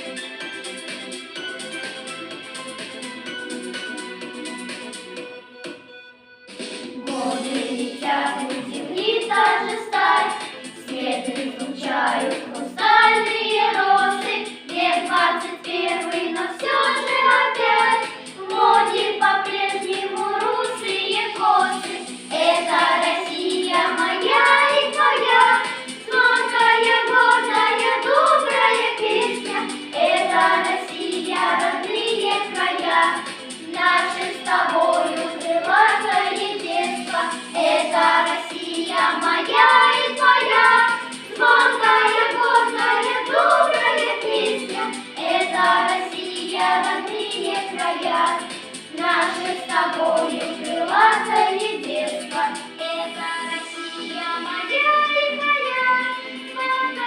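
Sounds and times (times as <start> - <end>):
children singing together: 7.0 - 57.0.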